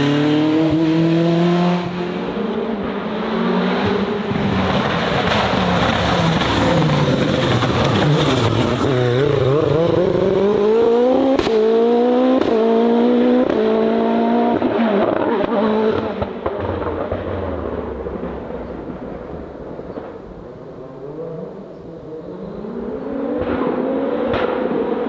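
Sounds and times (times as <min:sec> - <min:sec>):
race car engine accelerating: 0:00.0 - 0:18.3, 0:20.9 - 0:25.0.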